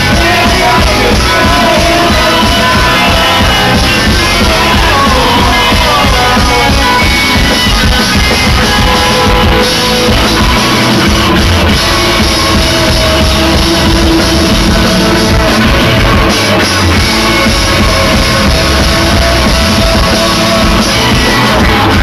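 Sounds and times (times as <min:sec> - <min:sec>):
drum kit: 0:00.0 - 0:22.0
electric guitars: 0:00.0 - 0:22.0.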